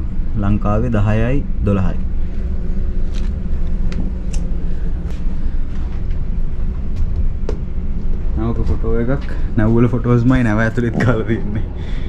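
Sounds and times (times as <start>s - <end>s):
ship machinery rumble: 0.0s - 12.0s.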